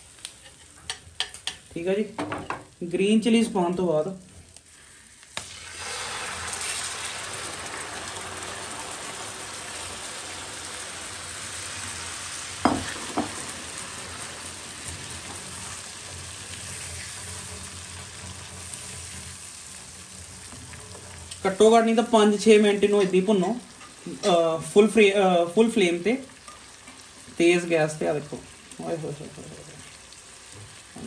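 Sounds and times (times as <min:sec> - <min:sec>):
chicken sizzling in oil: 0:00.0 - 0:31.0.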